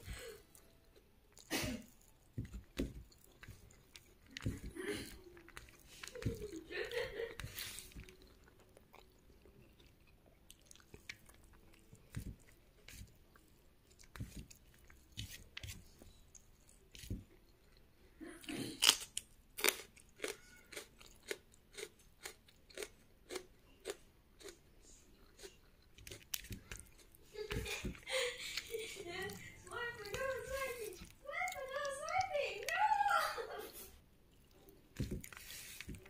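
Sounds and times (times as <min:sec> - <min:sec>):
chewing with crunching: 0:00.0 - 0:32.8, 0:34.1 - 0:36.0.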